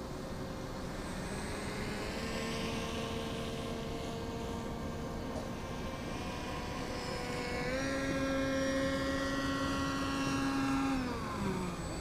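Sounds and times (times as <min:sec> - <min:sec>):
model plane motor buzzing whine: 0:00.0 - 0:12.0.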